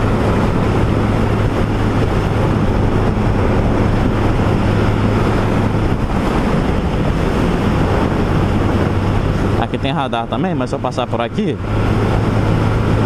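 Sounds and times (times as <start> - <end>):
motorcycle engine hum: 0.0 - 13.0
wind rushing over microphone: 0.0 - 13.0.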